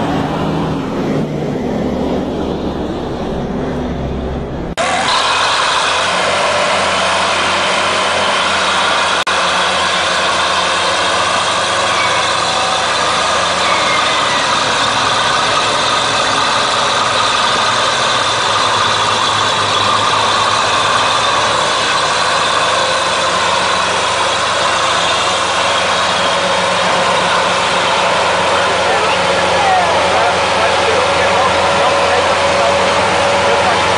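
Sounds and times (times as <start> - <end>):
heavy diesel engines under load: 0.0 - 33.9.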